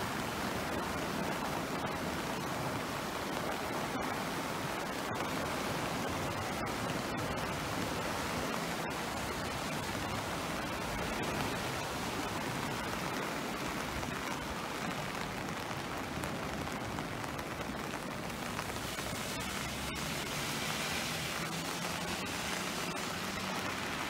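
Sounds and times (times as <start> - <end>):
falling rain: 0.0 - 24.0
river rushing: 0.0 - 24.0.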